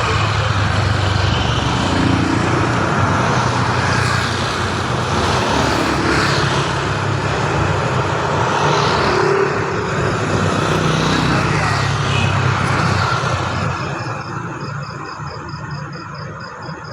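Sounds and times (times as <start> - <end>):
vehicle engines humming: 0.0 - 16.9.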